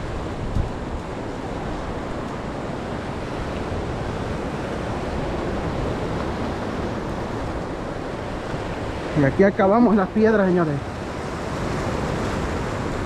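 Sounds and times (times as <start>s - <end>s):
sea surf rushing: 0.0s - 13.0s
wind buffeting microphone: 0.0s - 13.0s.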